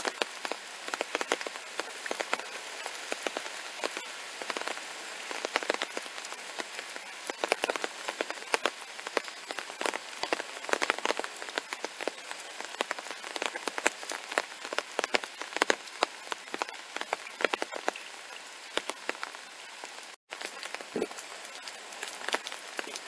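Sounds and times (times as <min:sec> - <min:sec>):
rain pattering on concrete: 0:00.0 - 0:23.0.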